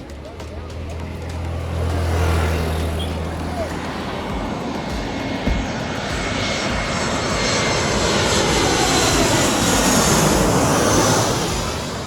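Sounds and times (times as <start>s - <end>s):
airliner passing low: 0.0s - 12.0s.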